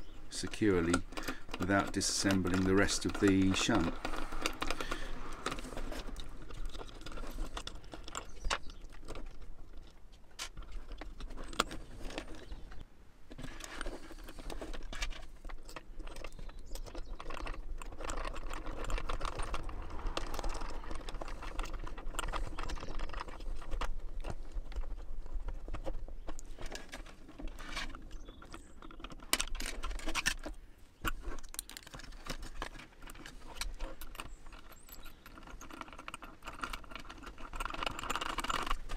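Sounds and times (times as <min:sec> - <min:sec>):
small parts clicking and rattling: 0:00.0 - 0:38.9.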